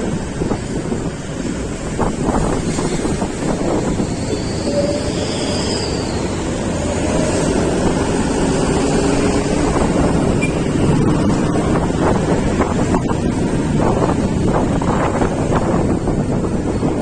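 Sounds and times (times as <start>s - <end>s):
vehicle road rumble: 0.0s - 17.0s
wind buffeting microphone: 0.0s - 17.0s.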